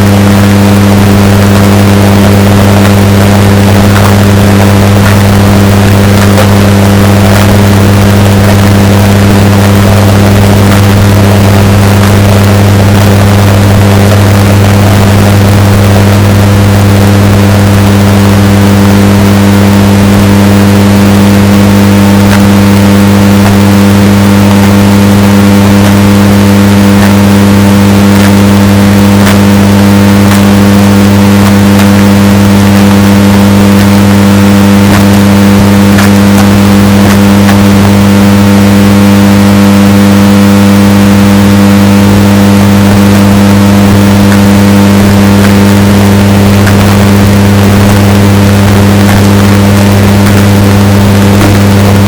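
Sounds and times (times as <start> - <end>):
washing machine drone: 0.0 - 52.0.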